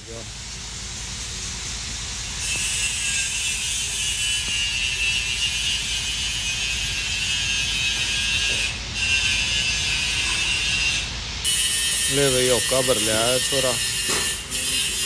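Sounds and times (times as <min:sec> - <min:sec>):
power tool hissing whine: 0:00.0 - 0:15.0.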